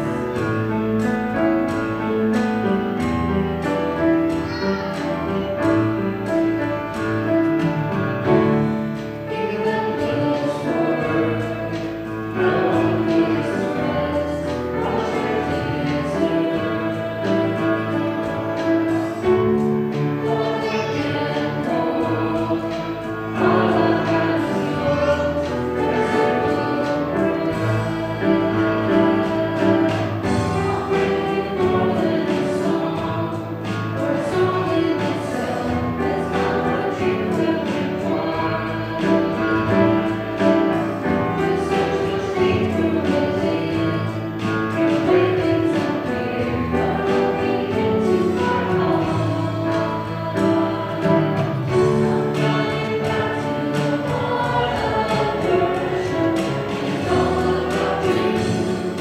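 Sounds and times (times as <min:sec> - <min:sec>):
choir singing with accompaniment: 0:00.0 - 0:59.0.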